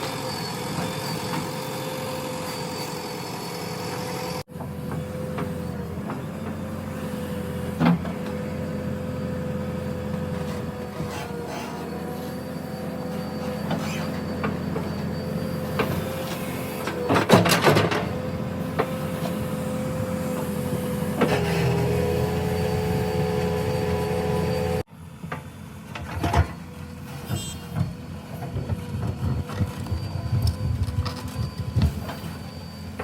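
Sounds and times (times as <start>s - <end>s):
diesel engine running with whine: 0.0s - 33.0s.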